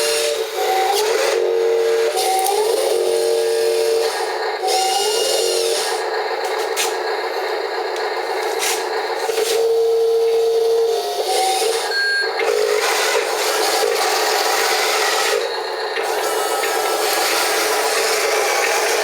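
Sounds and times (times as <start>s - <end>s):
small motors whining: 0.0s - 19.0s.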